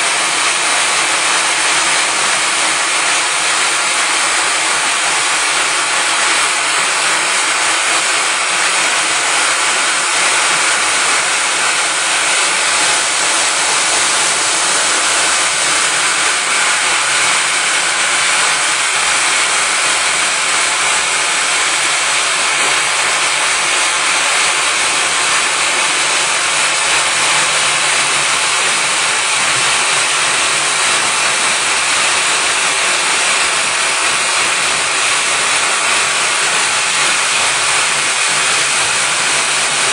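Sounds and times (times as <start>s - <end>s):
welding machine hiss: 0.0s - 39.9s.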